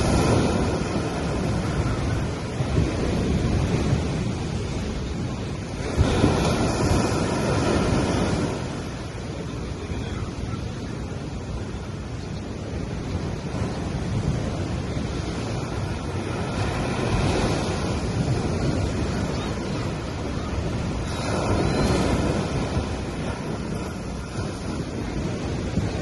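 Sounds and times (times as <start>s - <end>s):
sea waves washing onto beach: 0.0s - 26.0s.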